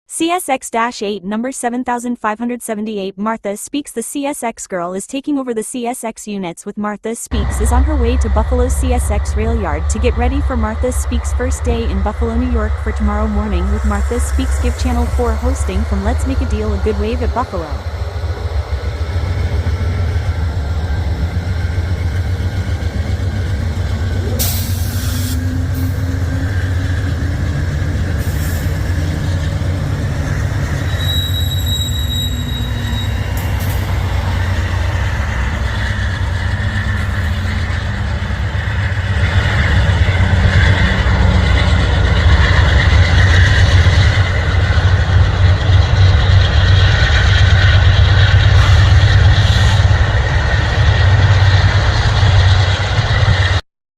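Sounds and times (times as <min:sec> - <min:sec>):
diesel locomotive rumbling: 0:07.3 - 0:53.6.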